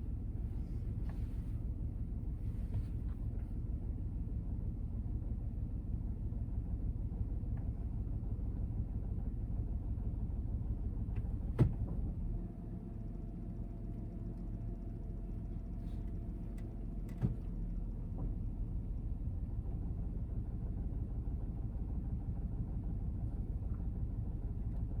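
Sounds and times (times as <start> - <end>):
car engine low rumble: 0.0 - 25.0.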